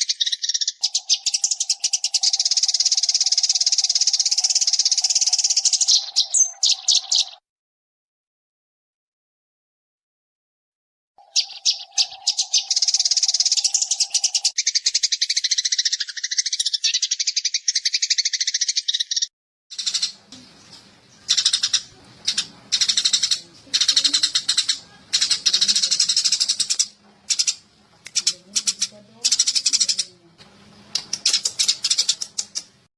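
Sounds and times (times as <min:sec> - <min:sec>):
sparrows chirping: 0:00.0 - 0:07.4, 0:11.2 - 0:32.9.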